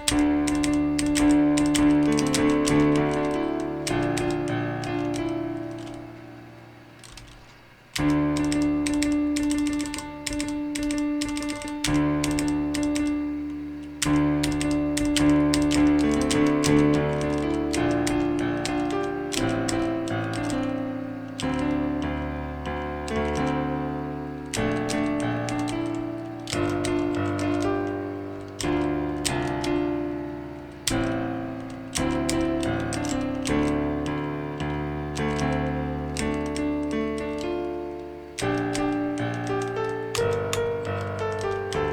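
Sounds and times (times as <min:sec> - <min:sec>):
computer keys clacking: 0:00.0 - 0:41.9
piano notes: 0:00.0 - 0:41.9.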